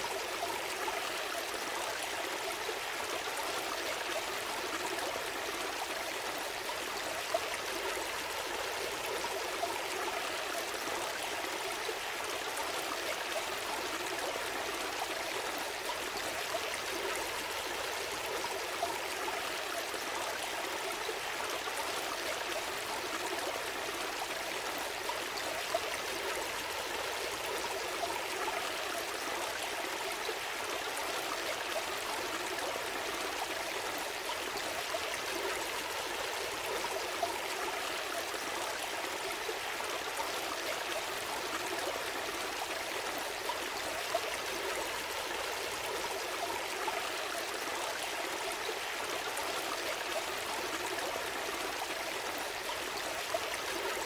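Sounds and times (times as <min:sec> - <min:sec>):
gentle stream flowing: 0:00.0 - 0:54.0.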